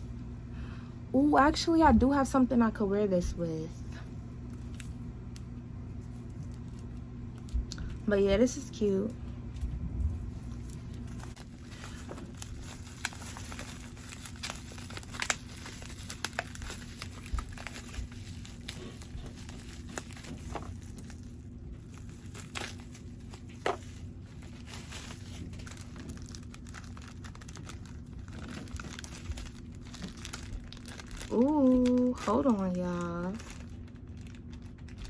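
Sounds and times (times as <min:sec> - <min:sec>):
steady low hum: 0:00.0 - 0:35.0
packaging crinkling and rustling: 0:04.4 - 0:08.0, 0:09.6 - 0:35.0.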